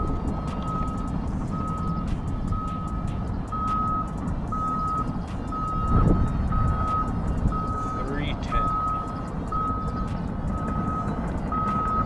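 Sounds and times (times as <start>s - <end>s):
electronic beeper high tone: 0.0s - 12.0s
low rumble: 0.0s - 12.0s.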